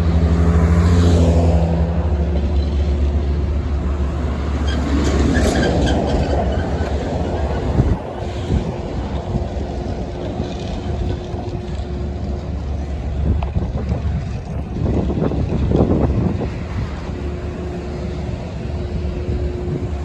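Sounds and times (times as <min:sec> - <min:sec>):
heavy vehicle engine hum: 0:00.0 - 0:20.0
rushing noise: 0:00.0 - 0:20.0.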